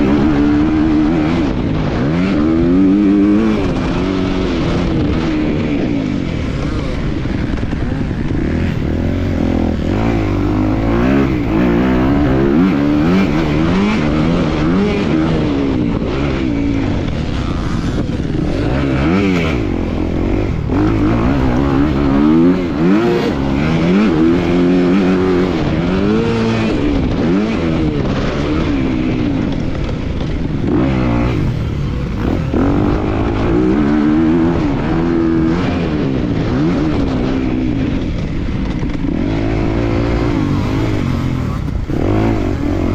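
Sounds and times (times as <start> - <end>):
motocross bike engine revving: 0.0 - 42.9
wind and track noise: 0.0 - 42.9.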